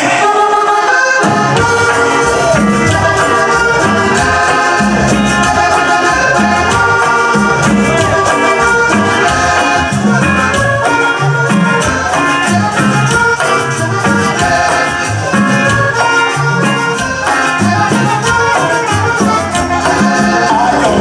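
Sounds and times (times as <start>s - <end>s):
accordion melody: 0.0s - 21.0s
congas: 0.0s - 21.0s
drum kit: 1.2s - 21.0s
electric bass: 1.2s - 21.0s.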